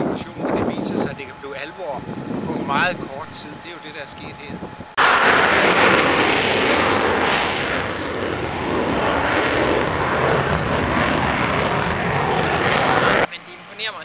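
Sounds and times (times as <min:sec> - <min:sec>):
fighter jet taking off: 0:00.0 - 0:14.0.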